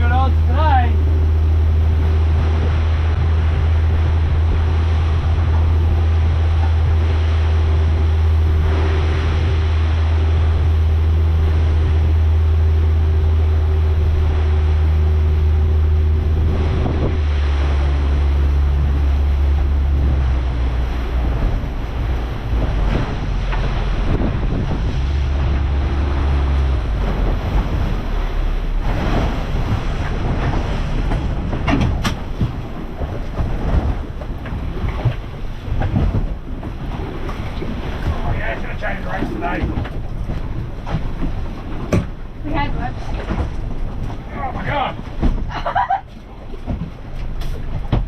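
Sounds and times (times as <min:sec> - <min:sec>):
outboard motor running: 0:00.0 - 0:48.0
water rushing past hull: 0:00.0 - 0:48.0
wind noise on microphone: 0:01.0 - 0:44.3.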